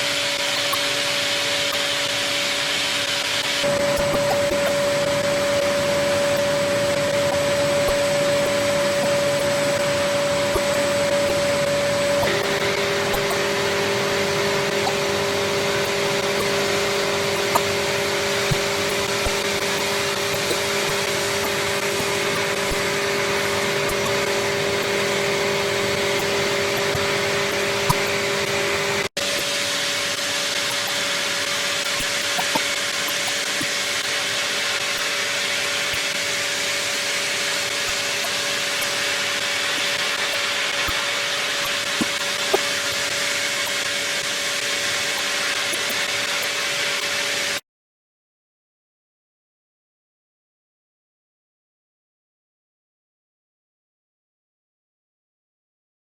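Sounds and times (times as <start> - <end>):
machining hiss: 0.0 - 47.6
two-note machine whine: 0.0 - 47.6.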